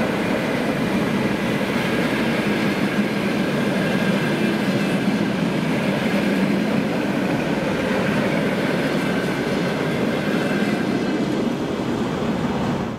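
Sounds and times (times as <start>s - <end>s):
train wheels rolling on rails: 0.0s - 12.9s.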